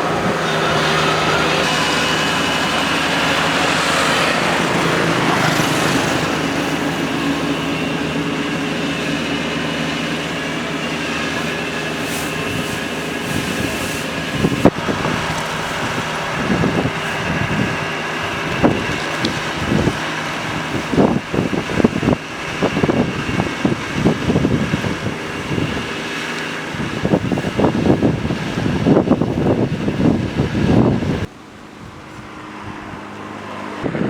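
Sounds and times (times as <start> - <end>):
crawler tracks clattering: 0.0 - 30.2
diesel engine running: 0.0 - 34.0.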